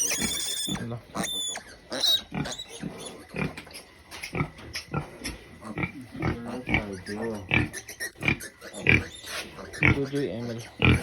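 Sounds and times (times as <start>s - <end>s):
pig grunting: 0.0s - 11.0s.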